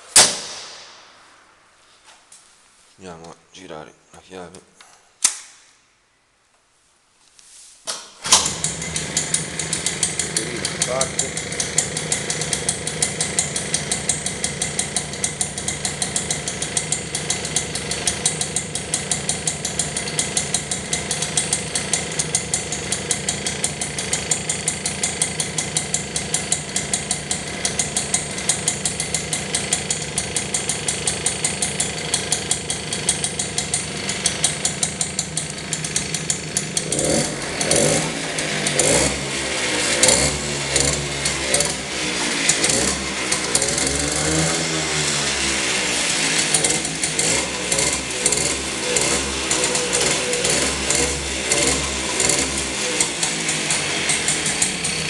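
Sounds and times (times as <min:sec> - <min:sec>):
moped engine idling and revving: 0:08.4 - 0:55.0.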